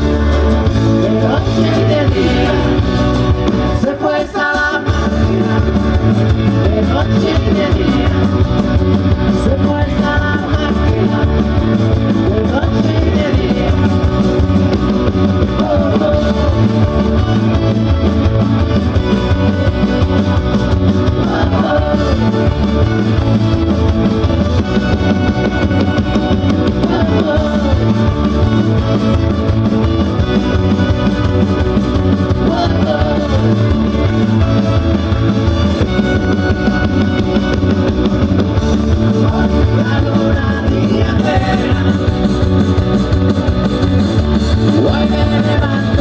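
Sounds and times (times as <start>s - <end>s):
live band playing: 0.0s - 46.0s.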